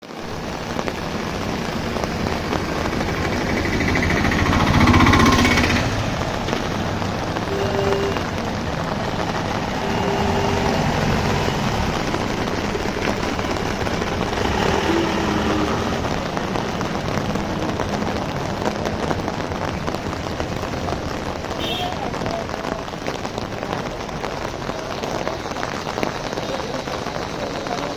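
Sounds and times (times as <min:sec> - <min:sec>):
heavy rain on an umbrella: 0:00.0 - 0:27.9.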